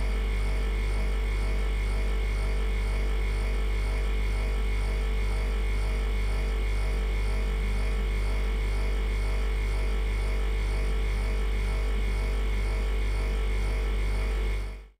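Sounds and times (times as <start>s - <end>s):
freezer compressor humming: 0.0s - 14.9s.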